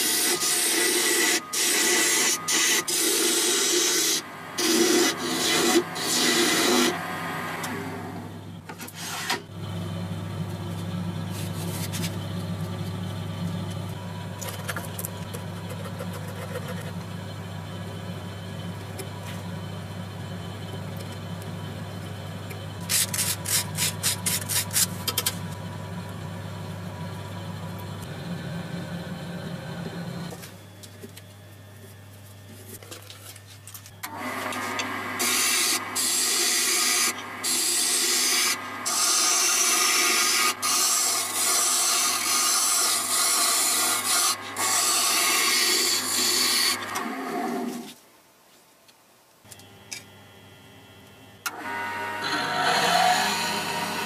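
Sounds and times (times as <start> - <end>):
lathe low hum: 0.0 - 48.0, 49.5 - 54.0.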